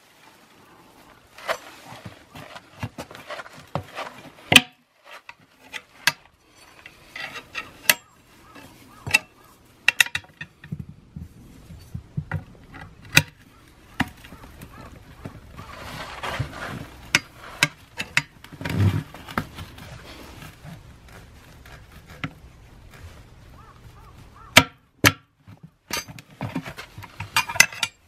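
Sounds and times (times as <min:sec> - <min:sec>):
tyre levers scraping metal rim: 0:01.4 - 0:10.8, 0:11.8 - 0:28.0.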